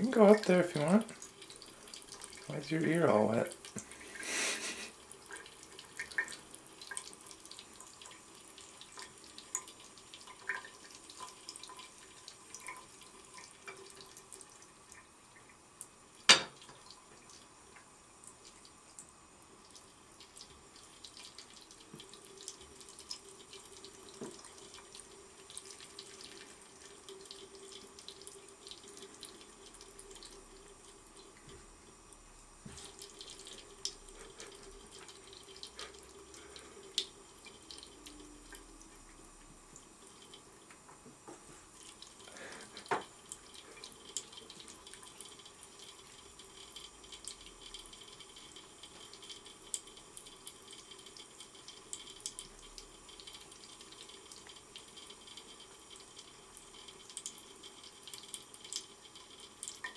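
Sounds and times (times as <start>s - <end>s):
tap water running into sink: 0.0s - 18.8s, 19.5s - 31.8s, 32.6s - 59.9s.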